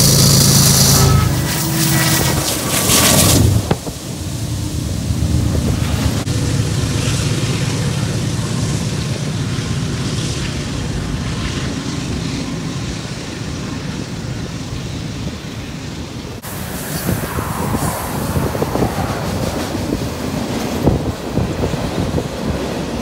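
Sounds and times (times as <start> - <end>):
freight train rumbling: 0.0 - 23.0.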